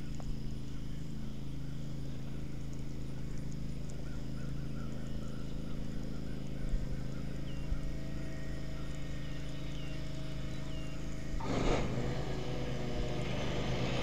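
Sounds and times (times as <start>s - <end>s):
fishing reel clicking whir: 0.0s - 14.0s.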